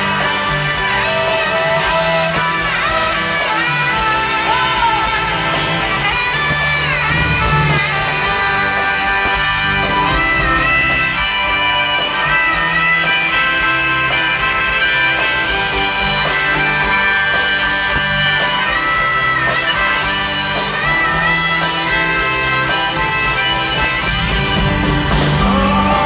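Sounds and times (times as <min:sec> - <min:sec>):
harmonica melody: 0:00.0 - 0:26.0
rock band playing: 0:00.0 - 0:26.0.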